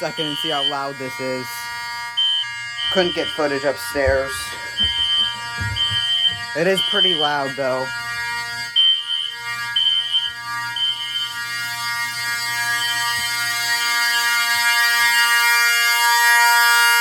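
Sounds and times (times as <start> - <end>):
fire alarm horn blare: 0.0 - 17.0
shrill pulsing high tone: 0.0 - 17.0.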